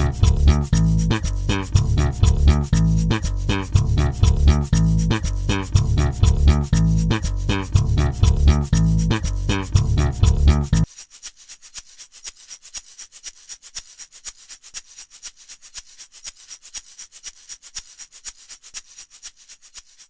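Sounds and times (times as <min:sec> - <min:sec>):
shaker playing quick rhythm: 0:00.0 - 0:20.0.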